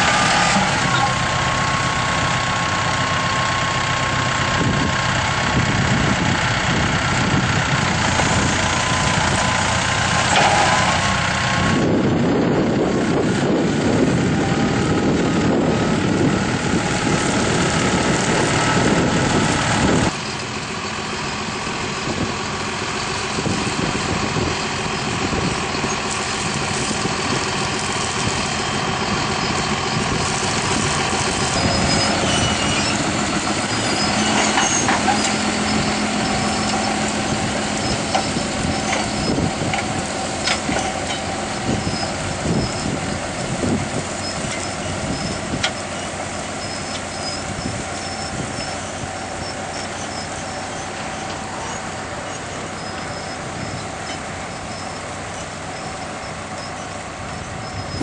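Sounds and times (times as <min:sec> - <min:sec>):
tractor engine under load: 0:00.0 - 0:58.0.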